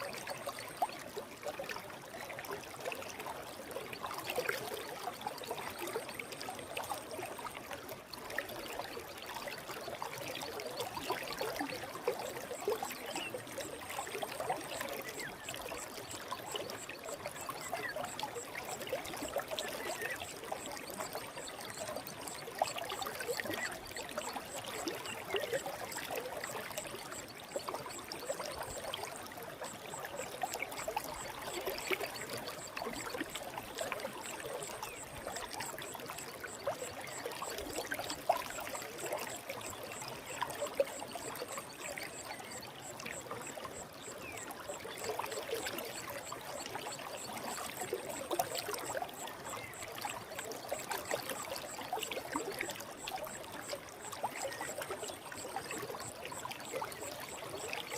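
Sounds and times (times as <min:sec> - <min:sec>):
stream flowing with gurgles: 0:00.0 - 0:57.9.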